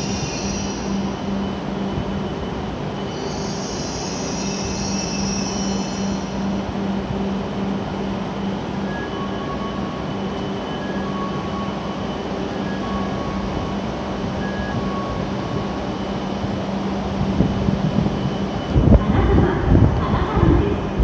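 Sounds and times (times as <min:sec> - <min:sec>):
station noise: 0:00.0 - 0:21.0
train equipment humming: 0:00.0 - 0:21.0.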